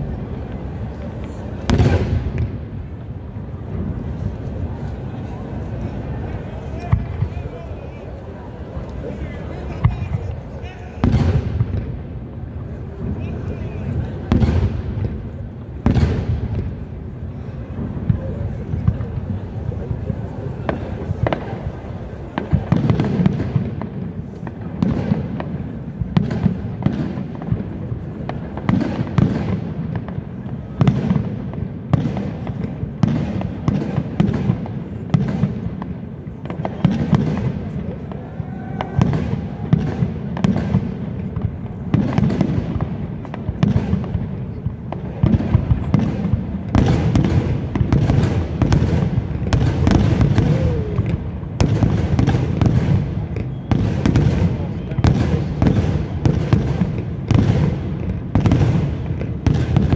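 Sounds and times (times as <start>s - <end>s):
firework bangs with rumble: 0.5s - 4.5s, 6.2s - 7.6s, 11.0s - 13.2s, 13.8s - 59.9s.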